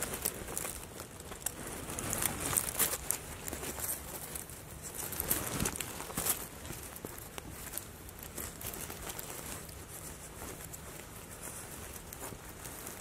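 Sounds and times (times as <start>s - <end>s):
faint ticks and rustles: 0.0s - 13.0s.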